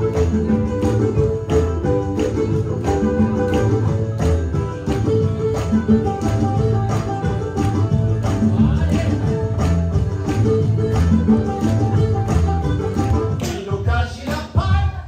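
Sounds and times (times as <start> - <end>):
music with beat and bass: 0.0 - 15.0.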